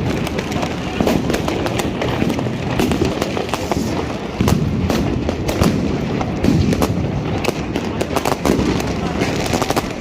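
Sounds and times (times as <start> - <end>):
distant explosions rumble: 0.0 - 10.0
fireworks bangs and cracks: 0.0 - 10.0.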